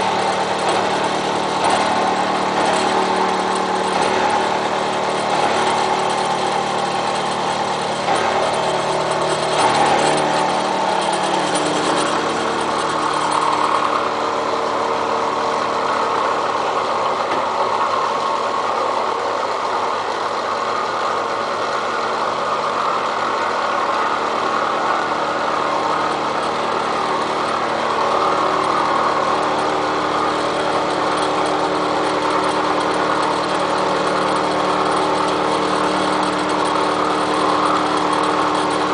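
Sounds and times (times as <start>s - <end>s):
milling machine cutting steel: 0.0s - 38.9s.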